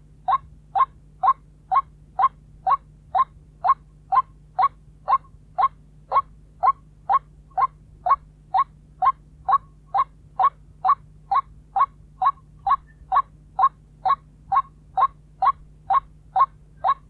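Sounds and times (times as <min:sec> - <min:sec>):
waterhen calling: 0:00.2 - 0:17.0.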